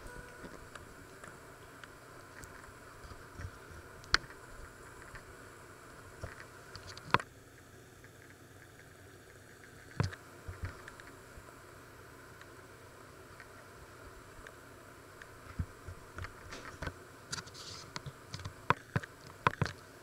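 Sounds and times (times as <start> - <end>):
room hum: 0.0 - 20.0.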